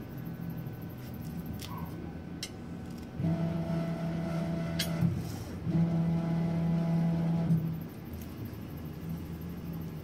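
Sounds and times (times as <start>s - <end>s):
printer motors humming: 0.0s - 10.0s.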